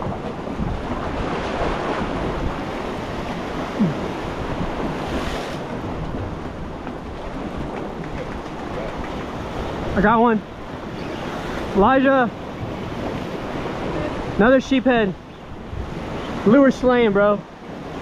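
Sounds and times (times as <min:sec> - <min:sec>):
surf against rocks: 0:00.0 - 0:18.0
wind buffeting microphone: 0:00.0 - 0:18.0.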